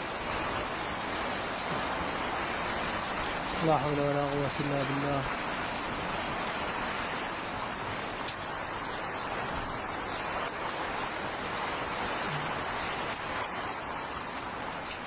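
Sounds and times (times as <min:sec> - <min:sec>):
rain on tent tarpaulin: 0:00.0 - 0:15.0.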